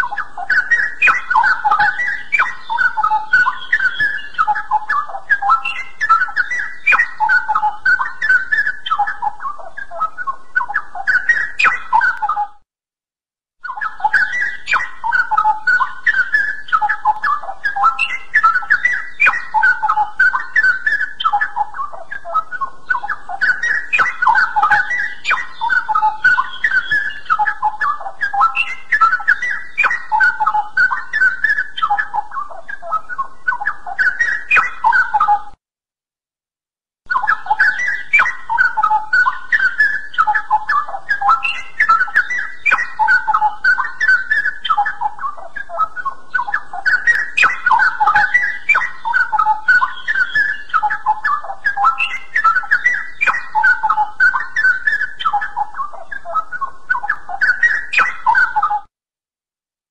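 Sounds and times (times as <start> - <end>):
bird singing: 0.0 - 12.6, 13.6 - 35.6, 37.1 - 58.9.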